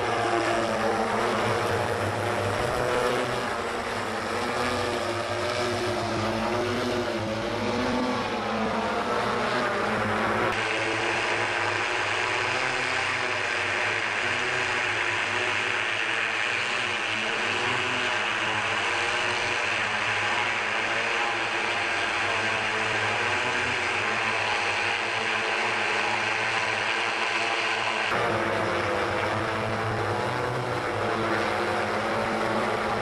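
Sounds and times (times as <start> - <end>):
electric motors and propellers whirring: 0.0 - 33.0.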